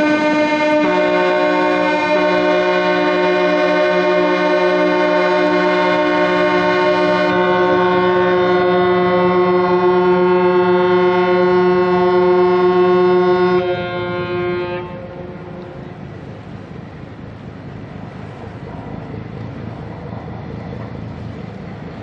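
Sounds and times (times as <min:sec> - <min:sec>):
ship horns blasting: 0:00.0 - 0:18.4.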